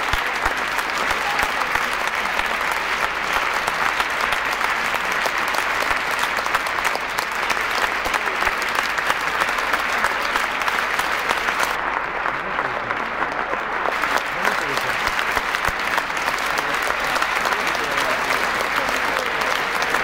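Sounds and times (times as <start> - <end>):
crowd applause: 0.0 - 20.0.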